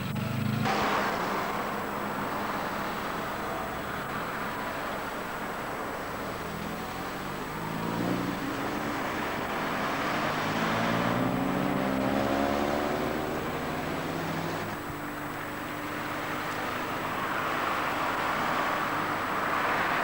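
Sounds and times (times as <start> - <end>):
cars accelerating past: 0.0 - 20.0
traffic noise: 0.0 - 20.0.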